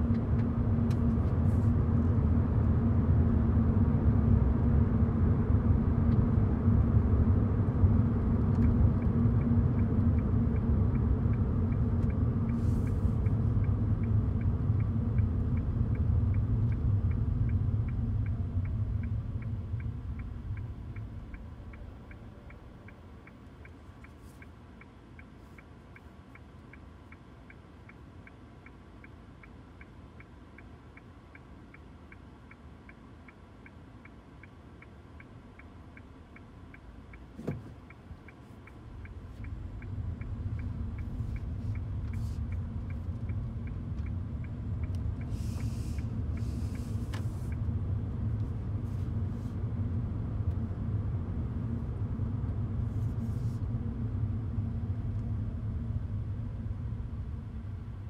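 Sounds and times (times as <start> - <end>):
car road rumble: 0.0 - 58.0
turn signal ticking: 0.0 - 58.0.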